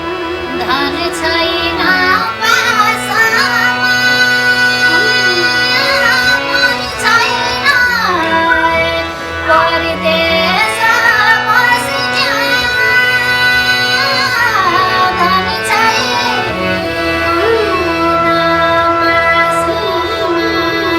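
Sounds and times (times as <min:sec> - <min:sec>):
instrumental accompaniment: 0:00.0 - 0:20.9
woman singing in a high voice: 0:00.5 - 0:20.9.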